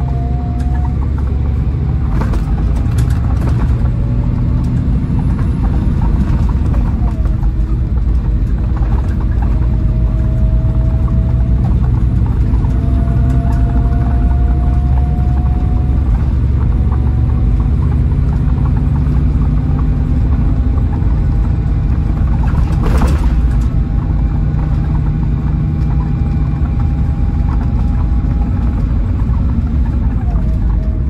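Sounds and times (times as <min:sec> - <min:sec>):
coach engine and road rumble: 0:00.0 - 0:31.0.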